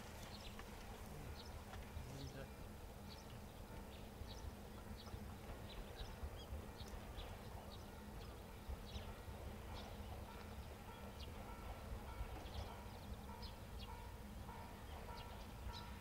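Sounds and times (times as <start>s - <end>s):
small birds chirping: 0.0s - 11.6s, 12.3s - 16.0s.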